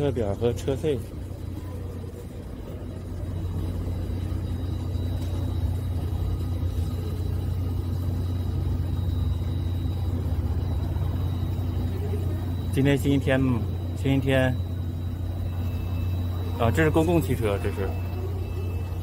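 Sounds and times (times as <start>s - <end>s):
faint high whine: 0.0s - 19.0s
mechanical rumble and hum: 0.0s - 19.0s.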